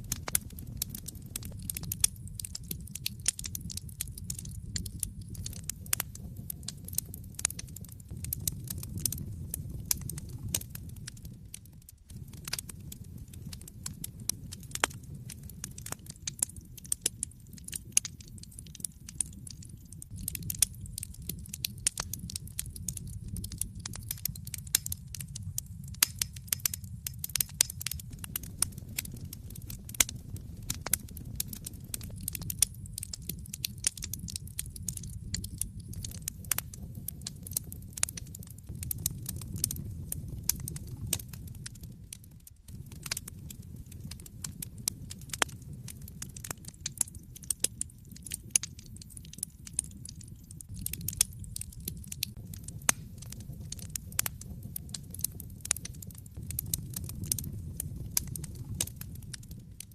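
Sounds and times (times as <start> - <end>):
low rumble of flames: 0.0 - 59.9
sharp pops of fire: 0.0 - 59.9
wood fire crackling: 0.0 - 59.9.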